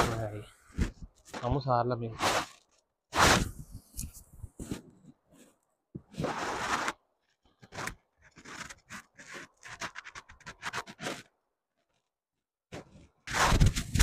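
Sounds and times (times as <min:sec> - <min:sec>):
scraping and rubbing: 0:00.0 - 0:12.0, 0:12.7 - 0:14.0.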